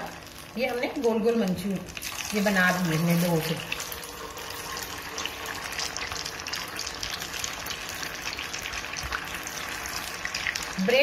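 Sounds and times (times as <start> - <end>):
food deep-frying in hot oil: 0.0 - 11.0.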